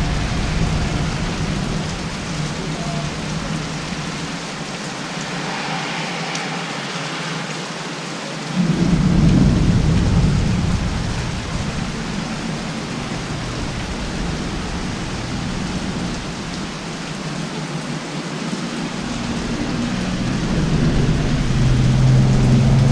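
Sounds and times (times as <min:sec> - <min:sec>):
thunder rumble: 0:00.0 - 0:07.2, 0:08.5 - 0:22.9
heavy rain pouring: 0:00.0 - 0:22.9.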